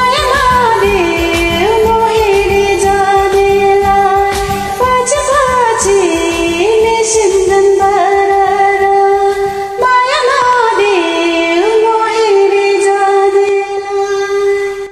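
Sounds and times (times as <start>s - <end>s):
backing track music: 0.0s - 14.9s.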